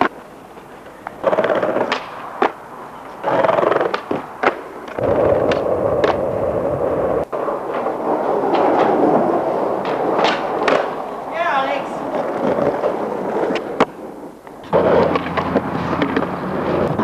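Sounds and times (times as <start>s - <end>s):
skateboard wheels rolling on asphalt: 0.0s - 17.0s
skateboard tail popping and landing: 1.1s - 2.6s, 3.2s - 11.2s, 12.1s - 17.0s.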